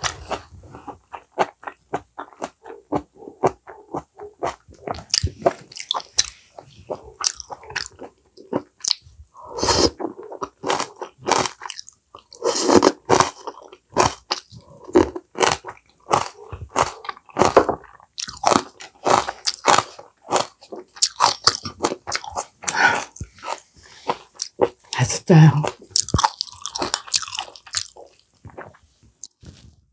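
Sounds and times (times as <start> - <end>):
close-miked crunchy chewing: 0.0 - 25.0, 25.6 - 29.7.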